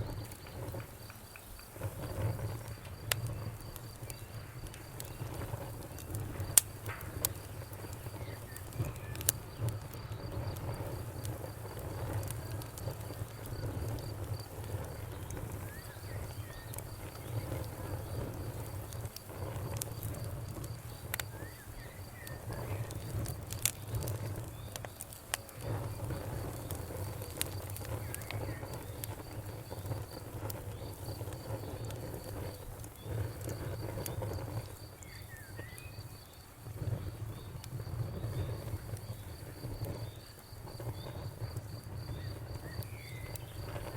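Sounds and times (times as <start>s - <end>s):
cricket chirping: 0.0s - 43.9s
wood fire crackling: 0.0s - 43.9s.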